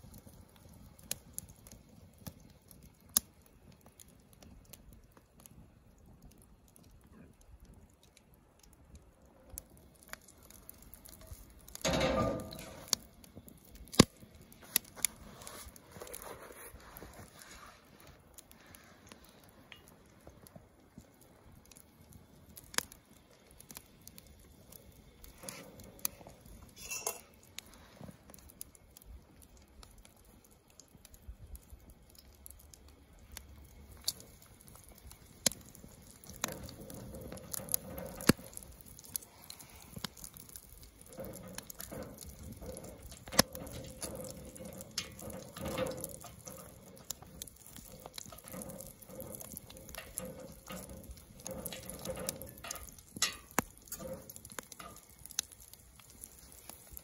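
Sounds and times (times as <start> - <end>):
dough frying in hot lard: 0.0 - 57.0.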